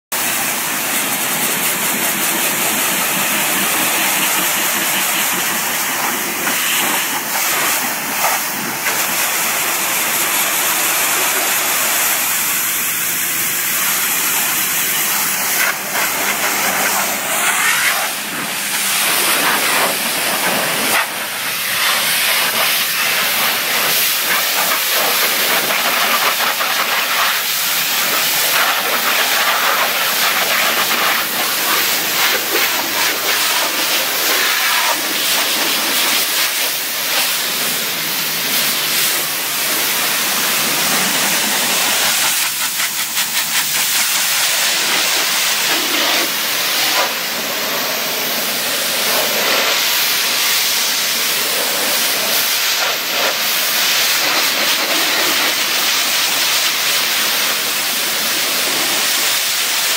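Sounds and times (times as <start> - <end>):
high-pressure water jet hissing: 0.1 - 59.9.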